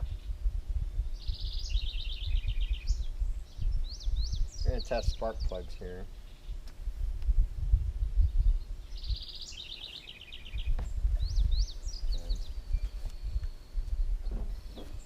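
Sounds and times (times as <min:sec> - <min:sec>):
birds singing: 0:00.0 - 0:06.8, 0:08.2 - 0:15.0
steady low rumble: 0:00.0 - 0:15.0.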